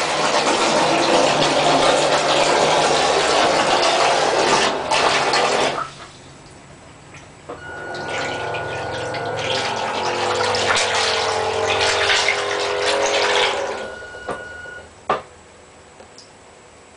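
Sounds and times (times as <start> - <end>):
pump motor whirring: 0.0 - 6.2, 7.5 - 14.9
water churning and splashing: 0.0 - 6.3, 7.1 - 14.8.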